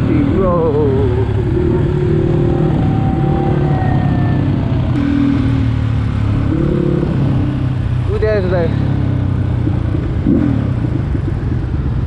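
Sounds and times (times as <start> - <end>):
dirt bike engines idling: 0.0 - 12.0.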